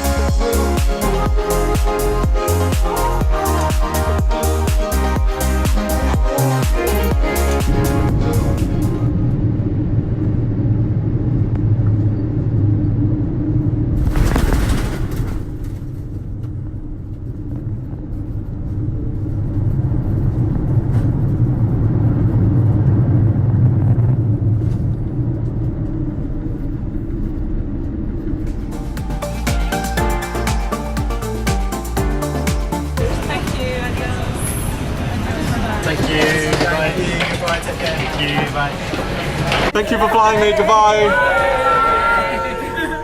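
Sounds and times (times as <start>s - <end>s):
airliner rumble: 0.0s - 43.0s
loud rush of noise: 5.5s - 31.2s, 33.0s - 43.0s.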